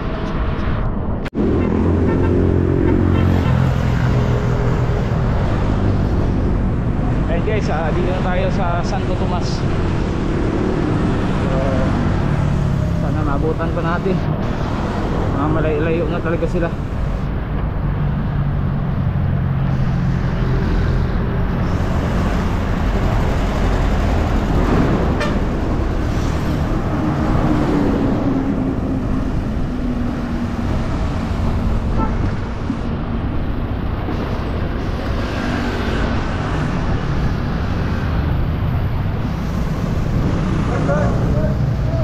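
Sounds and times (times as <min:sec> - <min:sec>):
road traffic rumble: 0:00.0 - 0:42.0.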